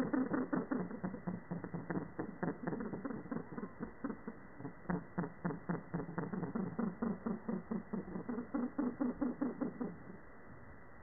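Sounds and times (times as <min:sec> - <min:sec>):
slowed deep bird calls: 0:00.0 - 0:10.4.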